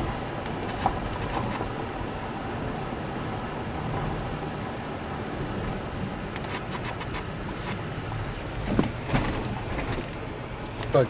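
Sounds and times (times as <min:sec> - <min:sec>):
vehicle rumbling over rough ground: 0:00.0 - 0:11.0.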